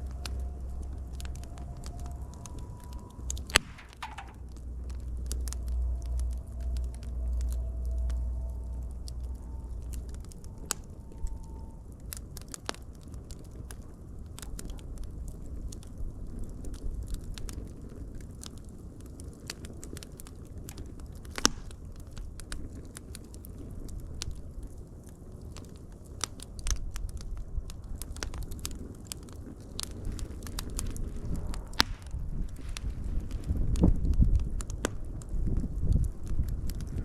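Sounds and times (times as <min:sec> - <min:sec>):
fire crackling and popping: 0:00.0 - 0:37.0
low rumble of flame: 0:00.0 - 0:37.0.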